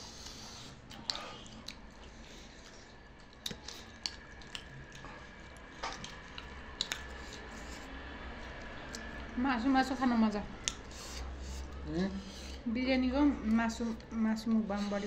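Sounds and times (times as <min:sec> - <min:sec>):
people chewing: 0:00.0 - 0:12.6.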